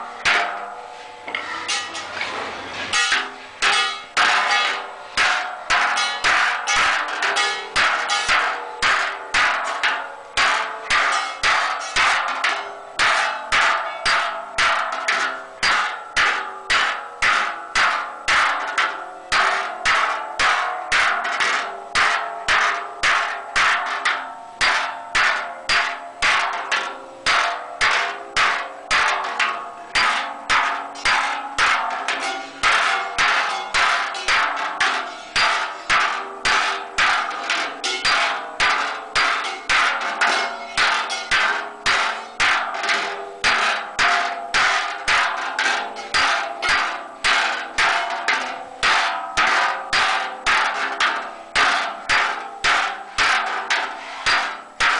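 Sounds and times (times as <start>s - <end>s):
hammer striking metal cauldron: 0.0s - 54.9s.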